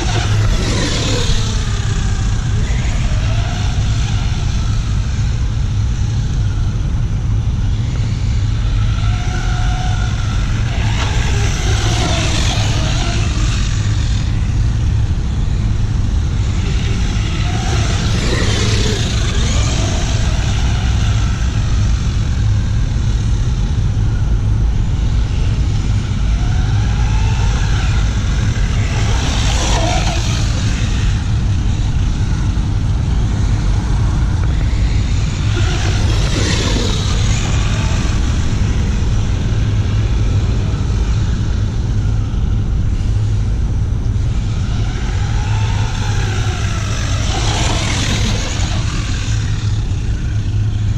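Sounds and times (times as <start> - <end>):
electric motor whining: 0.0 - 50.9
low rumble: 0.0 - 50.9.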